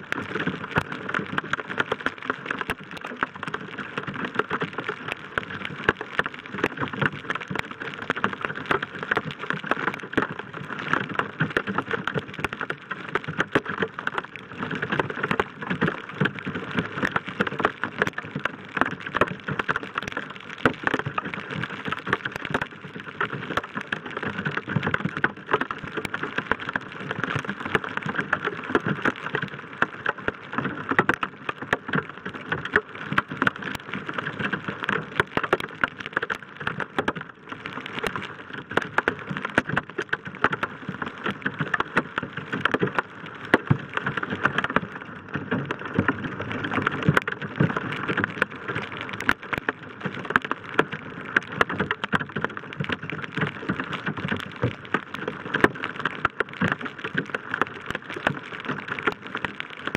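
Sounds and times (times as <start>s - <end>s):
heavy rain on truck roof: 0.0s - 59.9s.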